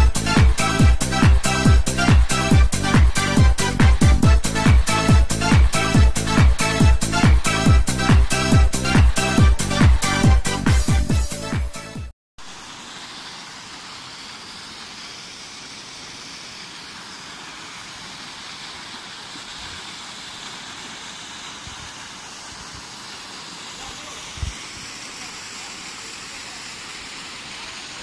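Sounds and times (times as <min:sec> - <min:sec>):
waterfall rushing: 0:00.0 - 0:10.3, 0:12.4 - 0:28.0.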